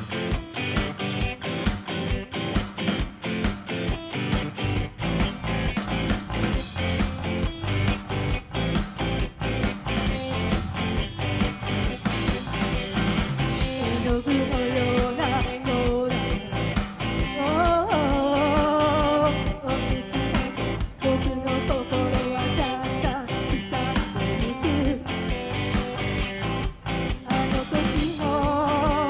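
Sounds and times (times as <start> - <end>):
bending lead guitar line: 0.0 - 29.0
rock band playing live: 0.0 - 29.0.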